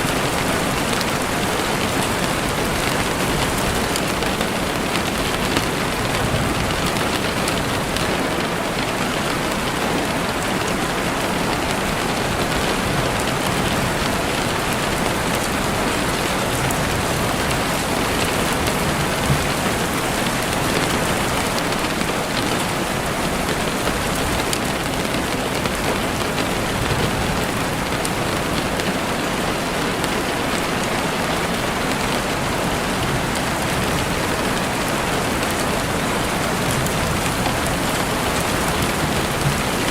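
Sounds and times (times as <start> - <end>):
rain on leaves and ground: 0.0 - 39.9.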